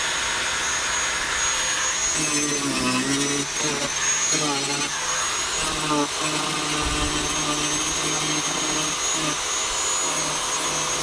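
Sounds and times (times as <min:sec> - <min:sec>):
rotary tool grinding: 0:01.4 - 0:11.0.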